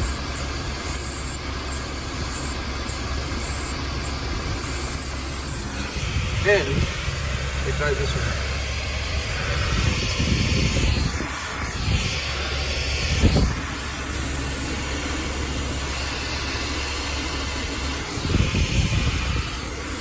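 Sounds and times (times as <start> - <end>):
air-conditioning blower hissing: 0.0 - 20.0.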